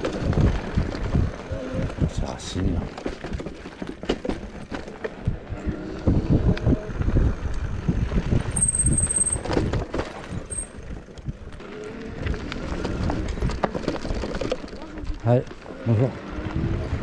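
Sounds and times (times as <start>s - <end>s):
knocks and rattles on rough trail: 0.0s - 17.0s.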